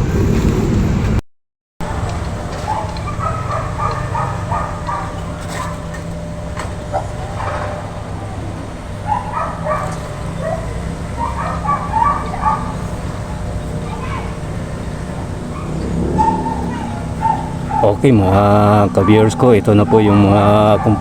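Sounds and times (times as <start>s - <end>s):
dog barking: 1.8s - 21.0s
low engine rumble: 1.8s - 21.0s.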